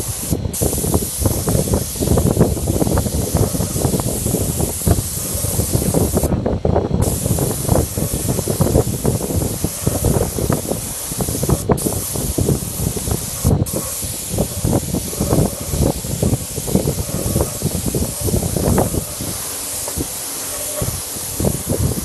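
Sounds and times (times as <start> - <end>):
spray gun hissing: 0.0 - 22.0.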